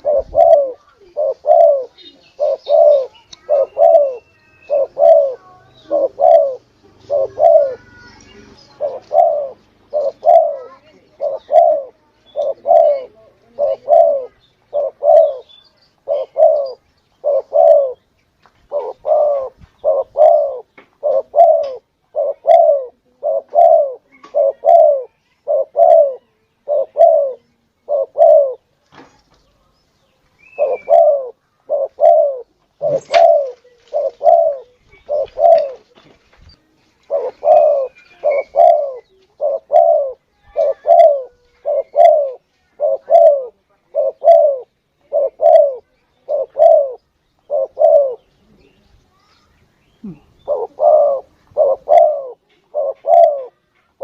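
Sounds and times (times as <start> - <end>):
dove cooing: 0.0 - 18.1, 18.7 - 28.7, 30.5 - 36.0, 37.0 - 48.7, 50.0 - 53.7.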